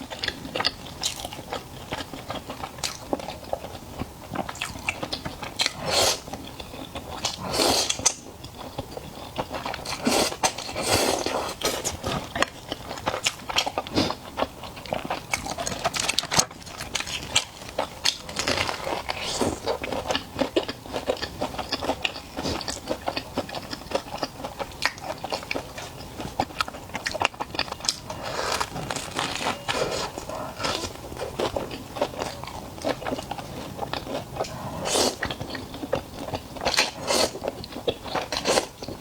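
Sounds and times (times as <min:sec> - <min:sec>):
person chewing crunchy food: 0:00.0 - 0:39.0.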